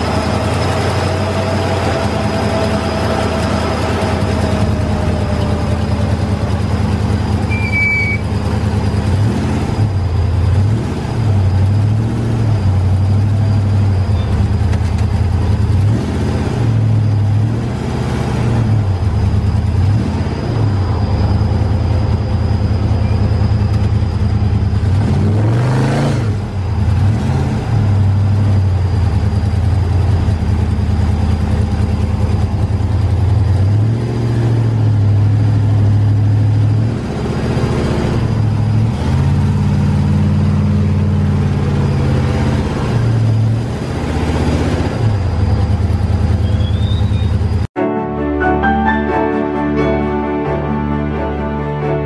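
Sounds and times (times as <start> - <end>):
truck engine revving: 0.0 - 47.8.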